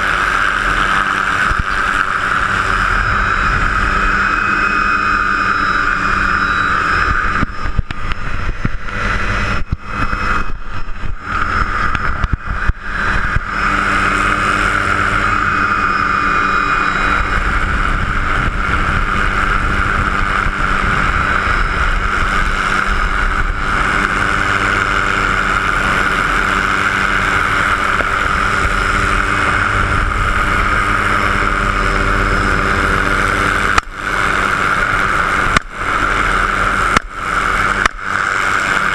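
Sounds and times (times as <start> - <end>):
helicopter drone from cabin: 0.0 - 38.9
high steady whine: 0.0 - 38.9.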